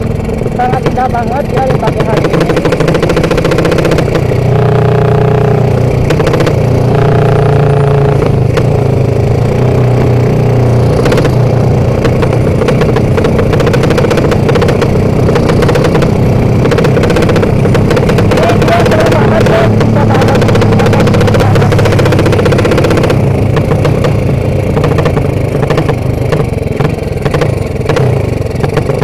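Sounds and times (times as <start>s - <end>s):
loud motorcycle engine: 0.0s - 29.0s.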